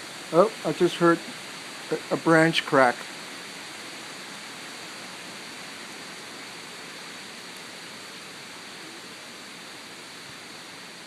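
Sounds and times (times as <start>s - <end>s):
wind rushing through trees: 0.0s - 11.0s.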